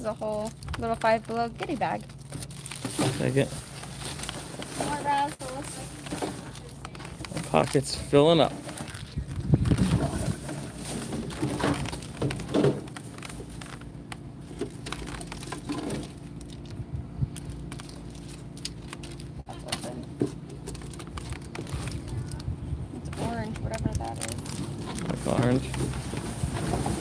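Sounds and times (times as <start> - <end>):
low steady hum: 0.0 - 27.0
plastic bags and wrappers rustling: 0.0 - 27.0.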